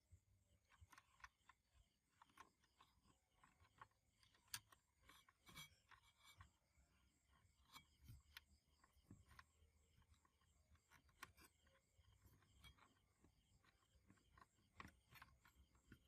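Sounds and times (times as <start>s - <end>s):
small clicks and taps: 0.0s - 16.0s.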